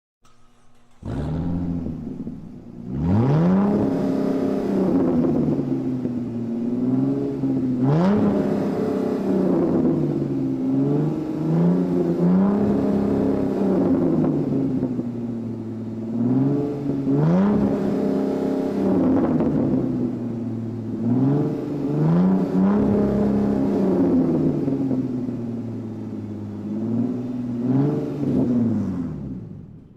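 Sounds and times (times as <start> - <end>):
car engine revving: 0.2 - 29.9.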